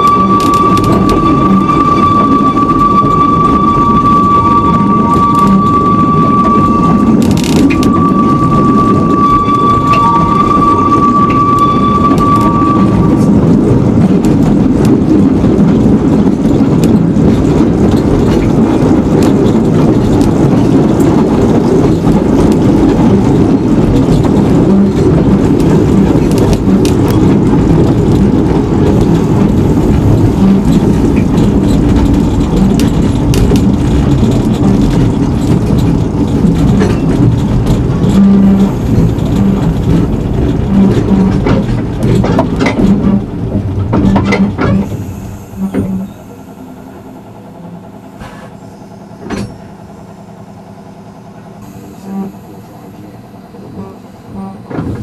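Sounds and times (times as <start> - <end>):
train clicks and clatter: 0.0 - 55.0
train rumbling: 0.0 - 55.0.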